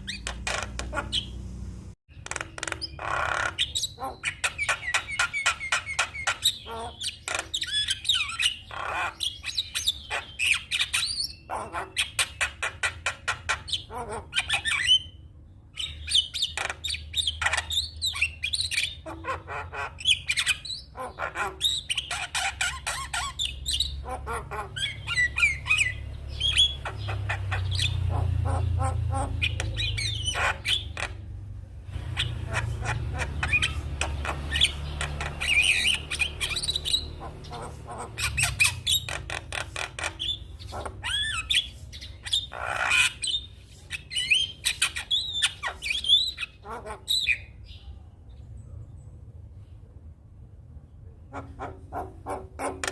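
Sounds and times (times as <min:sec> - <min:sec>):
myna bird chattering: 0:00.0 - 0:01.5, 0:02.1 - 0:47.9, 0:51.2 - 0:52.9.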